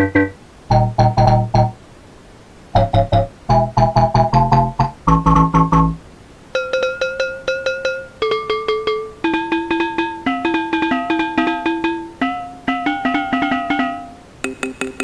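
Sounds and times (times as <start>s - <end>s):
plucked melodic music loop: 0.0s - 1.8s, 2.8s - 6.0s, 6.6s - 15.0s.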